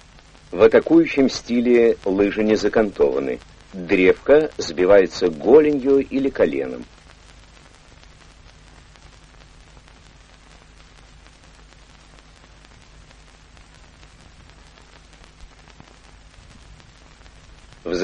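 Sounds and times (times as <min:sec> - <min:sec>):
faint crackle: 0:00.0 - 0:18.0
film soundtrack hiss: 0:00.0 - 0:18.0.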